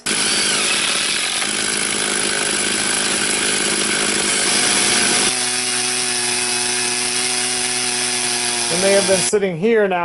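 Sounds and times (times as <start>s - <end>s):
chainsaw cutting log: 0.0s - 9.4s.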